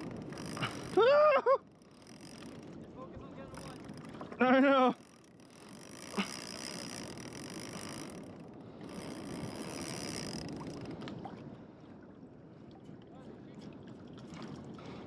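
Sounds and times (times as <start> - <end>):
water lapping against kayak hull: 0.0 - 15.0.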